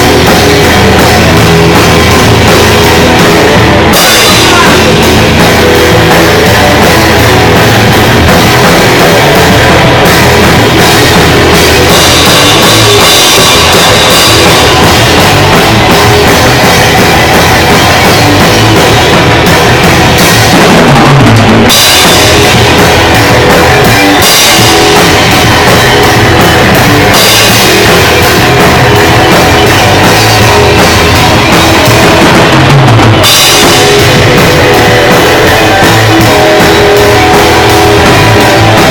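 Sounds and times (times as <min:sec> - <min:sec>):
drum kit with cymbals: 0:00.0 - 0:38.9
rock band playing loud: 0:00.0 - 0:38.9.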